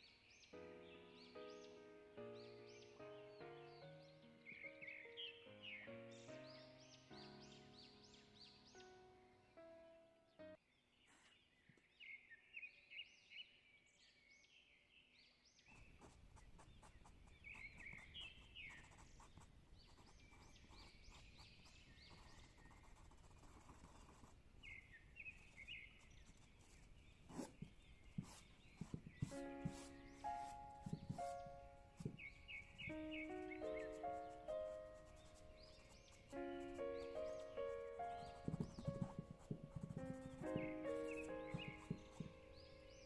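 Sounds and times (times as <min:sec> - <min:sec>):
faint birdsong chirps: 0:00.0 - 0:43.0.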